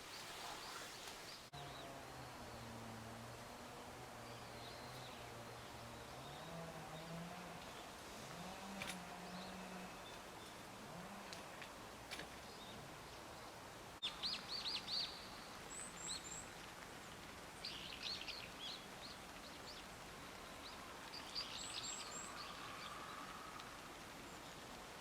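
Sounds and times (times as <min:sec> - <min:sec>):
small birds chirping: 0:00.0 - 0:03.0, 0:04.2 - 0:10.7, 0:12.4 - 0:24.9.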